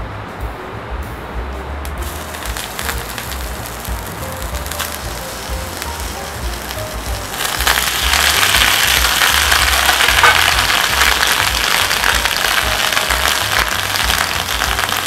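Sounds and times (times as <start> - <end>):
onions sizzling in hot oil: 2.0 - 15.0.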